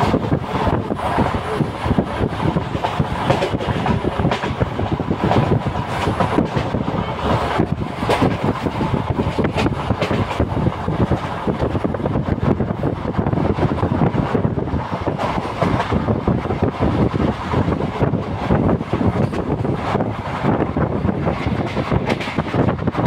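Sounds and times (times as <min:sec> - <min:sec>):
train clatter and knocks: 0:00.0 - 0:23.0
train wheels rumbling on rails: 0:00.0 - 0:23.0
wind noise: 0:00.0 - 0:23.0.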